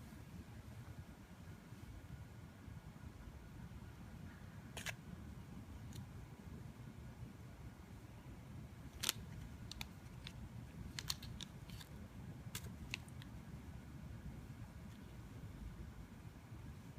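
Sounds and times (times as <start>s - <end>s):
faint low rumble: 0.0s - 16.9s.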